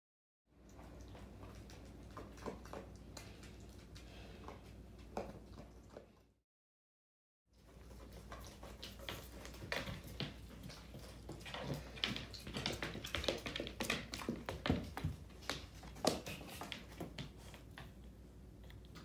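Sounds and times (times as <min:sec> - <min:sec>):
pig hooves on wooden floor: 0:00.6 - 0:06.2, 0:07.6 - 0:19.0.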